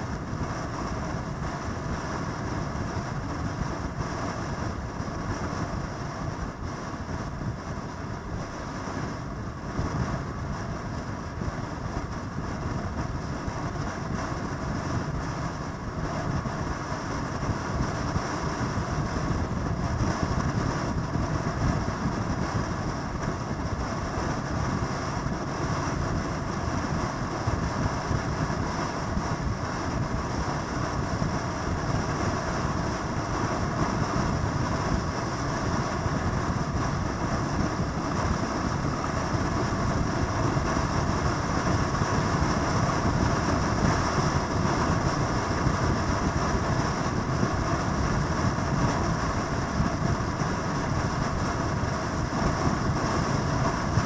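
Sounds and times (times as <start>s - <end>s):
continuous rushing noise: 0.0s - 54.0s.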